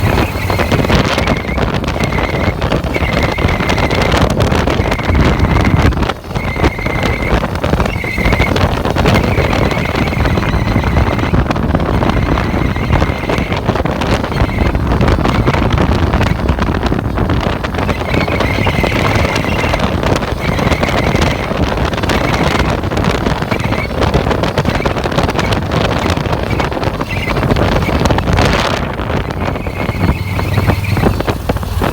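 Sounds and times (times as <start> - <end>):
drive belt squealing: 0.0 - 31.9
engine and road noise: 0.0 - 31.9.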